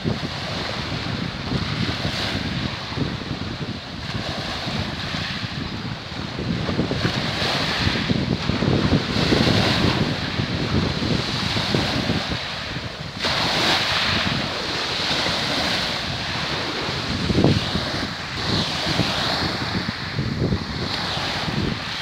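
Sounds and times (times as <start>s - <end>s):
sea water lapping: 0.0s - 22.0s
wind buffeting microphone: 0.0s - 22.0s.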